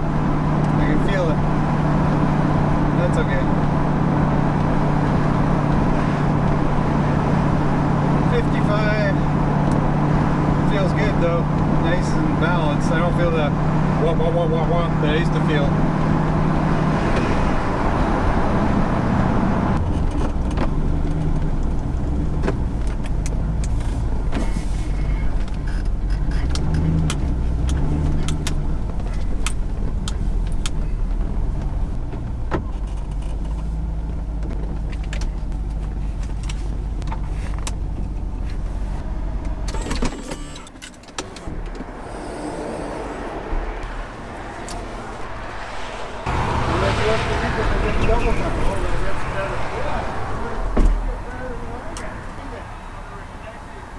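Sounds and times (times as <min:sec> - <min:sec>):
car engine running: 0:00.0 - 0:53.9
road noise: 0:00.0 - 0:53.9.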